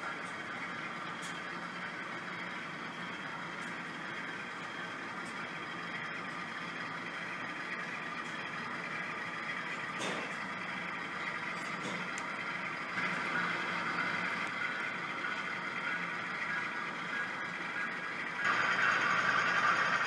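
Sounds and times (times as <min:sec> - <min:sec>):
model diesel engine sound: 0:00.0 - 0:20.0.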